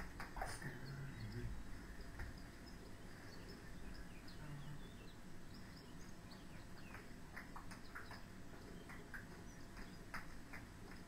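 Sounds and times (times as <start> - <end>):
faint high chirps: 0.3 - 10.1.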